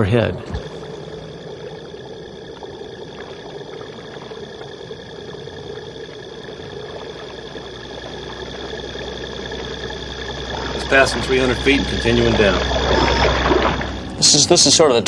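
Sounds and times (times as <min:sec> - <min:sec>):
mechanical drone: 0:00.0 - 0:15.0.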